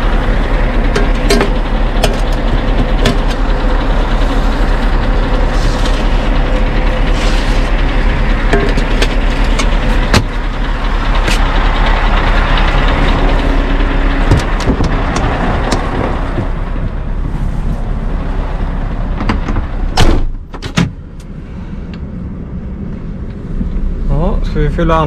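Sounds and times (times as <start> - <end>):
heavy truck noise: 0.0 - 25.0.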